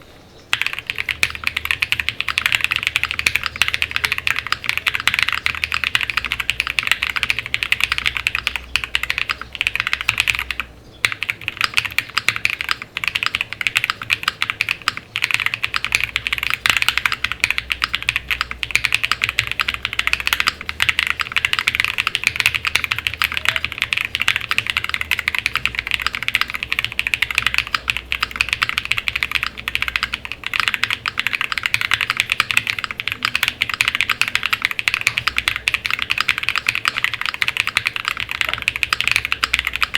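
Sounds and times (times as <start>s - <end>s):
mechanical keyboard typing: 0.5s - 39.9s.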